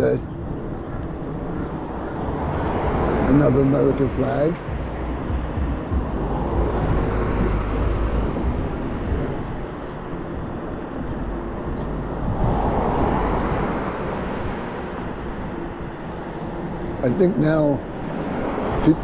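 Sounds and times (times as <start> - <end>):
e-bike road noise: 0.0 - 19.0
wind rushing over microphone: 0.0 - 19.0.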